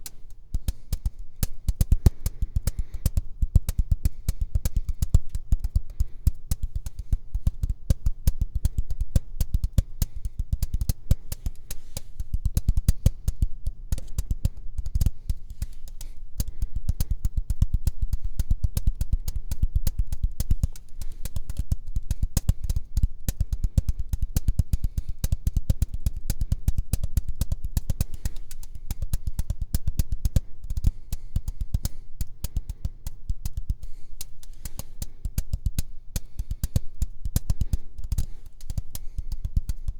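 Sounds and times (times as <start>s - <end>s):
rapid sharp tapping: 0.0s - 39.9s.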